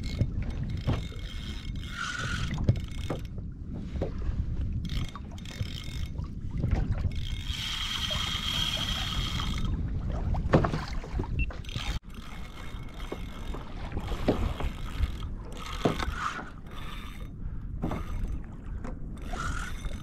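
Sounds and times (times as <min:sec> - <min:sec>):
fishing reel clicking and whirring: 0:00.0 - 0:03.4, 0:04.8 - 0:09.8, 0:11.5 - 0:18.5, 0:19.1 - 0:20.0
wind rumble on microphone: 0:00.0 - 0:20.0.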